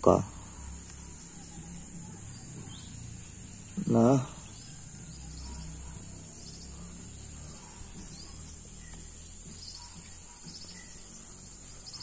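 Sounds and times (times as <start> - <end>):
faint bird chirps: 0.0 - 12.0
insect drone: 0.0 - 12.0.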